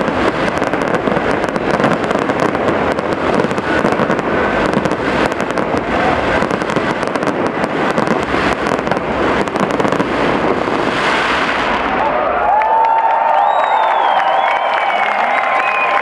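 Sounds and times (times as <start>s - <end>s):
fireworks bangs and crackles: 0.0s - 14.6s.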